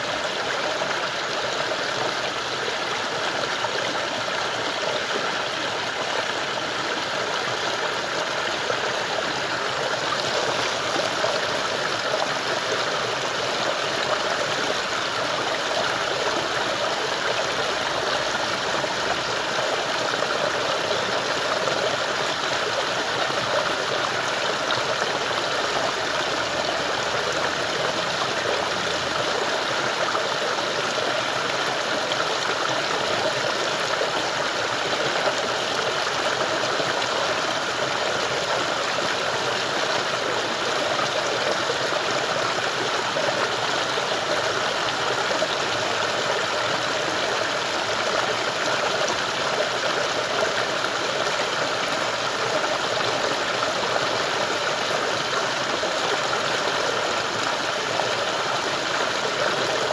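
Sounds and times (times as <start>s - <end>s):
stream water rushing over stones: 0.0s - 59.9s.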